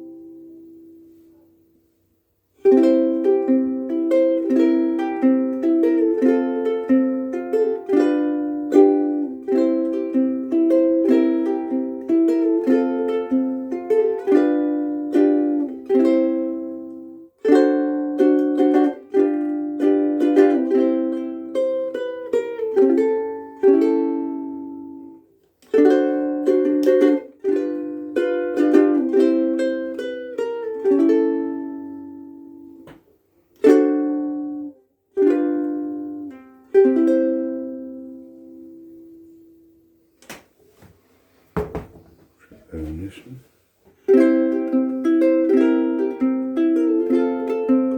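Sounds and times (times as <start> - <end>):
ukulele chords and picked notes: 0.0 - 40.4, 44.0 - 47.9.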